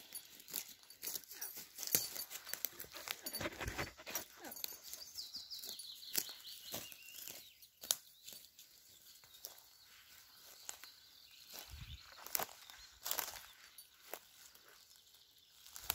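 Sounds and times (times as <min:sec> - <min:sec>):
footsteps on dry pine needles: 0:00.0 - 0:04.8, 0:05.6 - 0:15.9.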